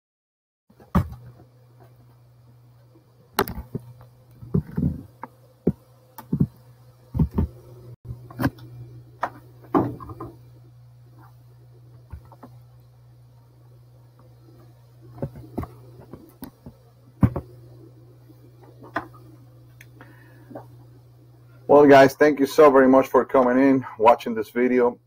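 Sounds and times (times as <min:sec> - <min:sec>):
steady low hum: 0:00.7 - 0:25.0.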